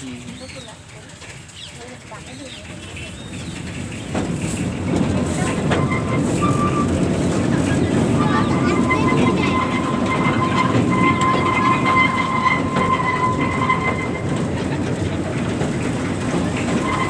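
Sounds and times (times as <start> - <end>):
train rumbling on rails: 0.0 - 17.0
wheels clickety-clack: 0.0 - 17.0.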